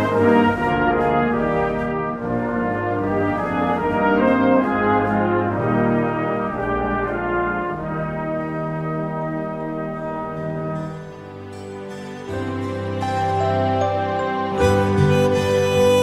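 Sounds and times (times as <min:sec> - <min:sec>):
brass playing held chords: 0:00.0 - 0:16.0.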